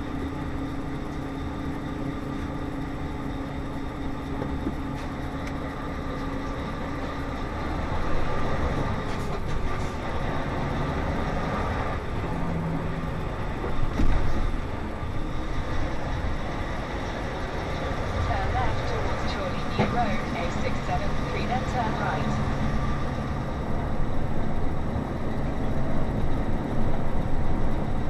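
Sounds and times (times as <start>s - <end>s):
rumbling road noise: 0.0s - 28.0s
truck engine droning: 0.0s - 28.0s.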